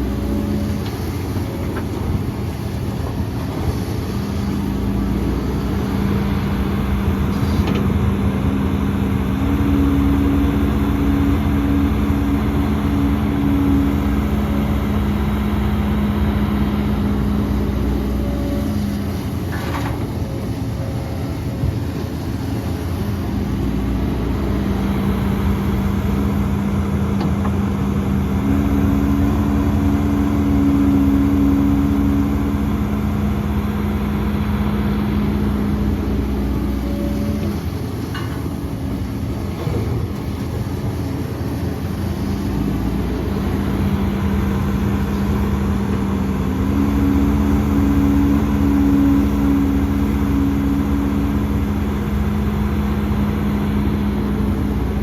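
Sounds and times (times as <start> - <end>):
heavy diesel machinery engine: 0.0 - 55.0.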